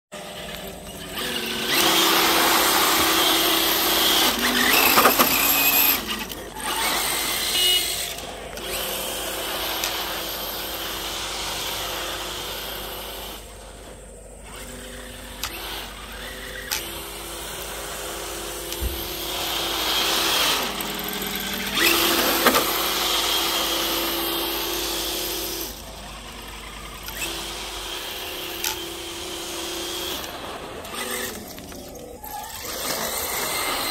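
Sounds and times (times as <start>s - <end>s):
electric motor whining: 0.2s - 33.9s.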